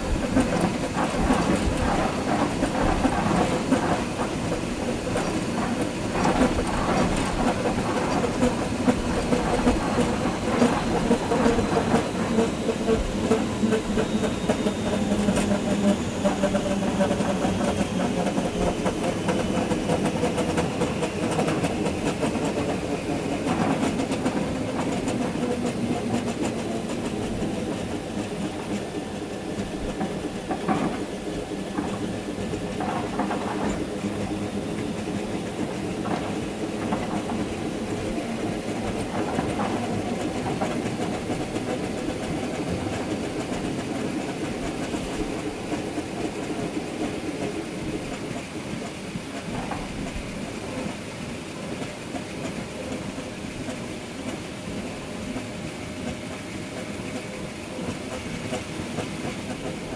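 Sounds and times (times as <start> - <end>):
clicks and knocks of train: 0.0 - 59.9
train wheels rumbling on rail: 0.0 - 59.9.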